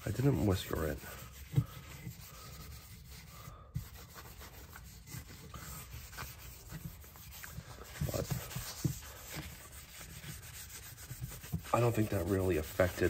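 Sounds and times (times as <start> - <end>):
cloth rubbing on wood: 0.0 - 13.0.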